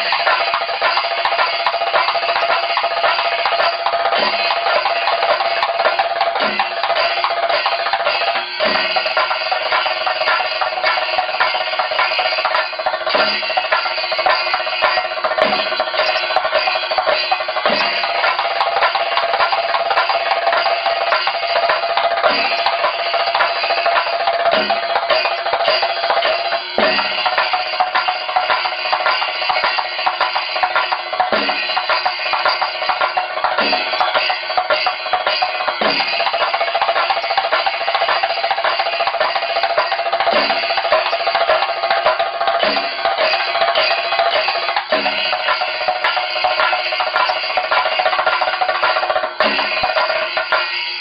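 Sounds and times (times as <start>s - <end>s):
deep accented drum beat: 0.0s - 50.8s
drums played with sticks: 0.0s - 51.0s.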